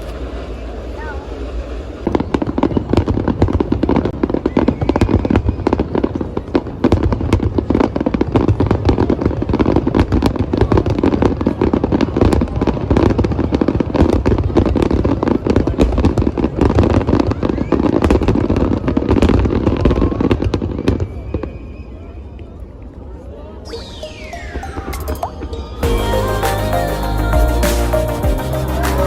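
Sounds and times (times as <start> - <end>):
fireworks crackling bangs: 0.0 - 21.6, 24.1 - 29.0.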